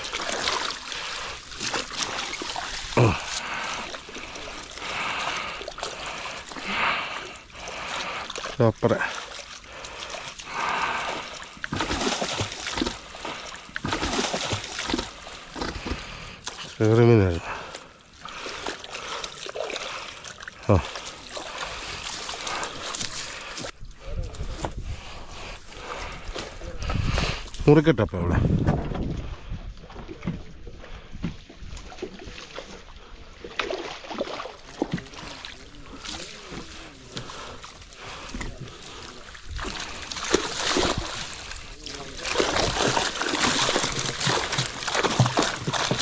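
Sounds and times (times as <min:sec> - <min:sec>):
water splashing and sloshing: 0:00.0 - 0:46.0.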